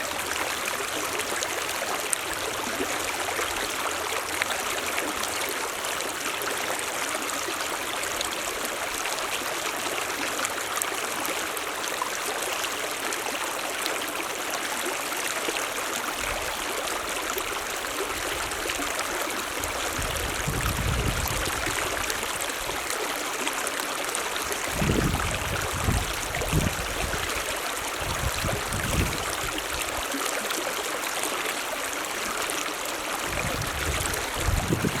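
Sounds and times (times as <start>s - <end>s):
mountain stream rushing: 0.0s - 35.0s.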